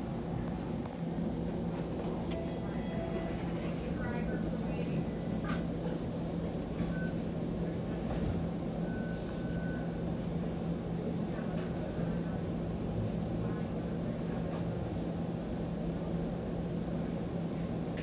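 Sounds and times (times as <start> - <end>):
streetcar hum and rumble: 0.0 - 18.0.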